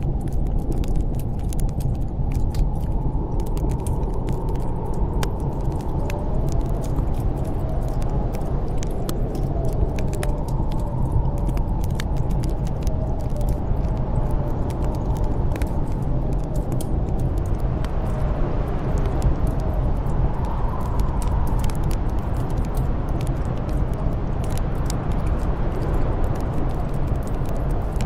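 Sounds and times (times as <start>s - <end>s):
snowstorm wind whistling: 0.0s - 28.0s
wood fire crackling: 0.0s - 28.0s.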